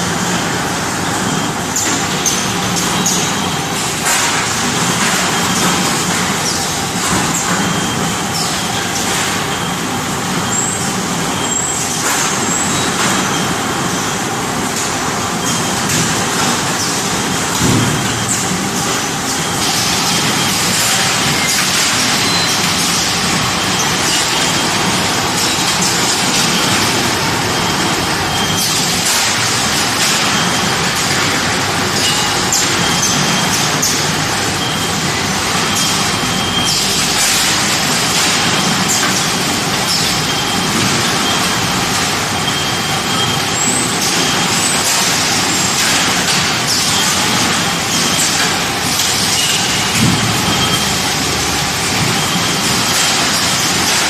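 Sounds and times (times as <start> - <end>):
baler machine running: 0.0 - 54.0.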